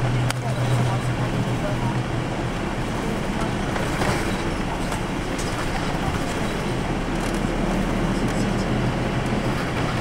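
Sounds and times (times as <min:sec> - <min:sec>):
bus engine and road noise: 0:00.0 - 0:10.0.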